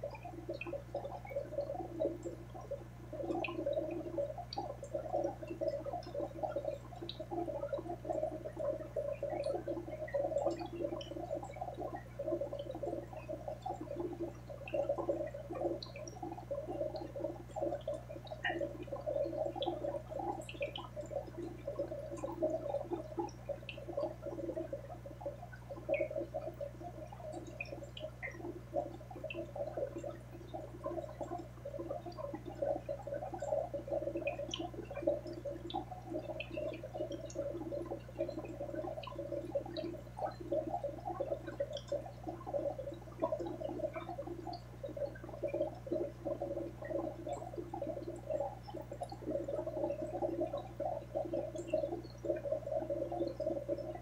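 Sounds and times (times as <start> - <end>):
aquarium water bubbling: 0.0 - 54.0
small ticks: 0.0 - 54.0.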